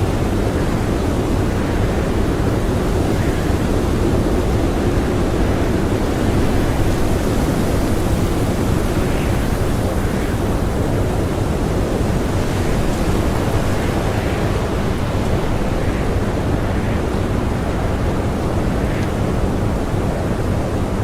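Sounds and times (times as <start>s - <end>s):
blizzard wind blowing: 0.0s - 21.0s.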